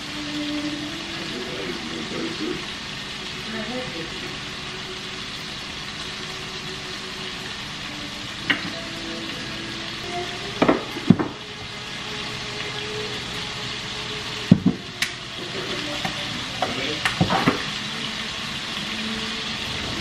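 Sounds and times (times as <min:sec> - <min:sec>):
meat sizzling in a skillet: 0:00.0 - 0:20.0.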